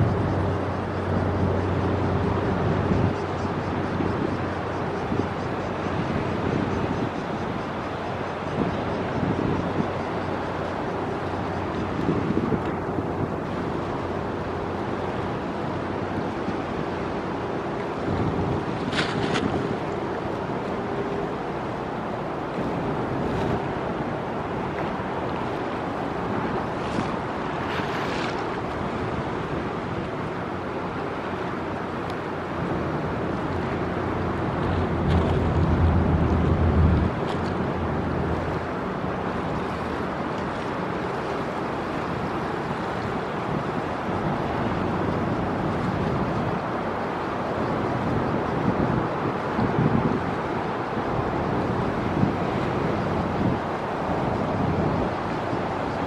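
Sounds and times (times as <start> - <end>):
ferry engine rumble: 0.0 - 56.0
wind noise on microphone: 0.0 - 56.0.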